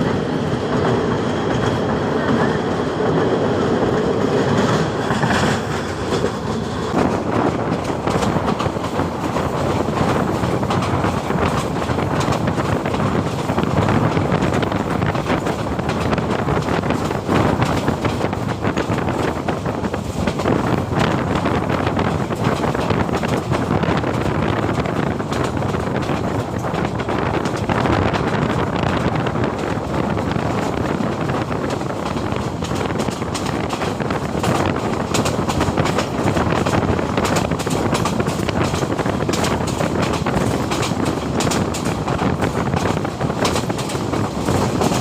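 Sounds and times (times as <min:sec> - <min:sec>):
train rumble: 0:00.0 - 0:45.0
wheels clattering on rails: 0:00.0 - 0:45.0.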